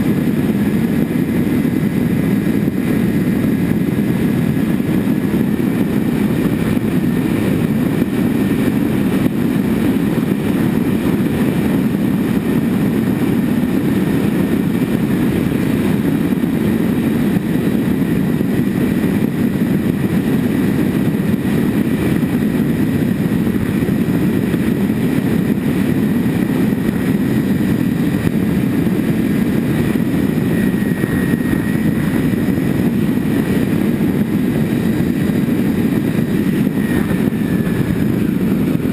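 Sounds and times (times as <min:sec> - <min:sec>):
propeller and wind drone: 0:00.0 - 0:38.9.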